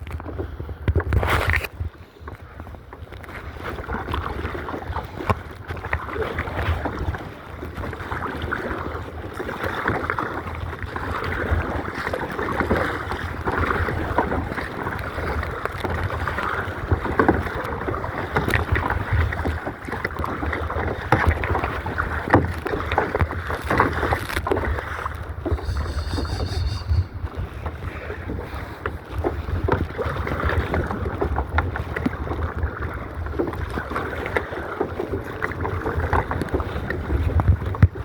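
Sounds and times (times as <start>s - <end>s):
water splashing around kayak: 0.0s - 38.0s
wind rumbling on microphone: 0.0s - 38.0s.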